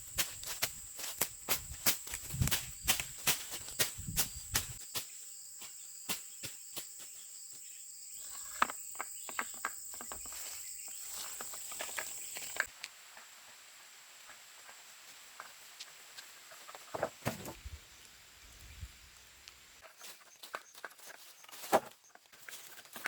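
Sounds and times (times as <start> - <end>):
insects droning: 0.0 - 19.9.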